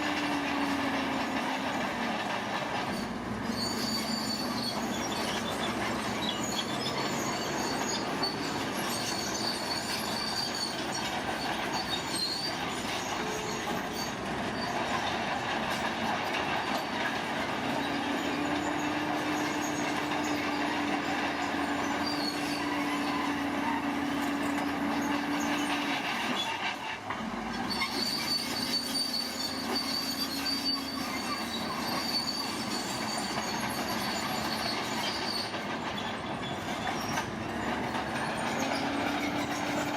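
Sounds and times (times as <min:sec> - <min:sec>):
crawler tracks squealing and clanking: 0:00.0 - 0:39.9.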